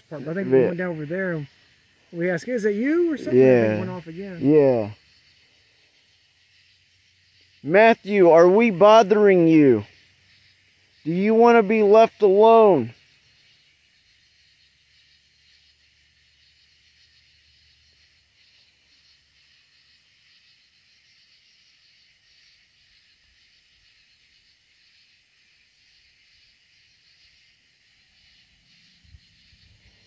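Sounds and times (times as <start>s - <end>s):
faint high hiss: 0.0s - 30.0s.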